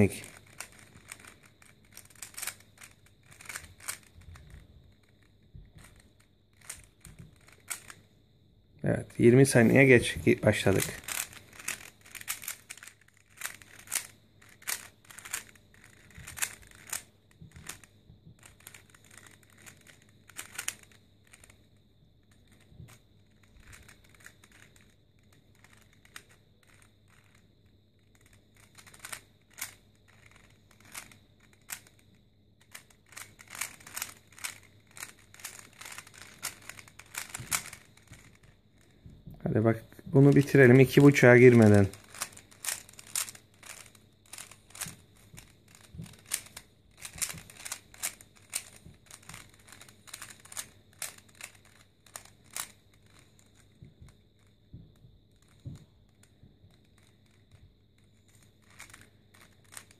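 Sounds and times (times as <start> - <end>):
puzzle cube clicking: 0.0 - 8.0, 9.2 - 21.7, 22.3 - 27.4, 28.1 - 32.0, 32.6 - 39.0, 40.3 - 54.5, 58.3 - 59.9.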